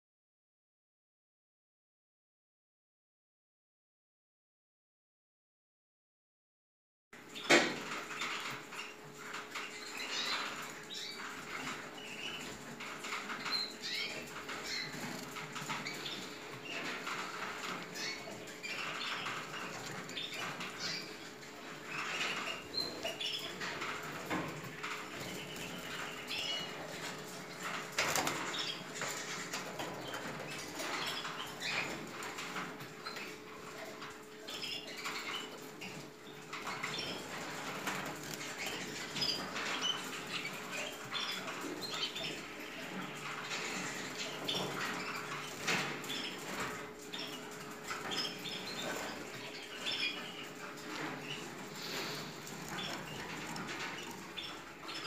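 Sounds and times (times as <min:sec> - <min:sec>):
birds fluttering in cage: 0:07.2 - 0:55.0
canaries chirping: 0:07.2 - 0:55.0.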